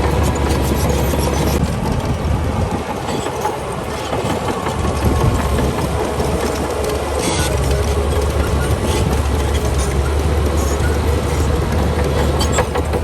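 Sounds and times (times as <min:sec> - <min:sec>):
bulldozer diesel engine under load: 0:00.0 - 0:13.0
steel tracks clanking: 0:00.0 - 0:13.0.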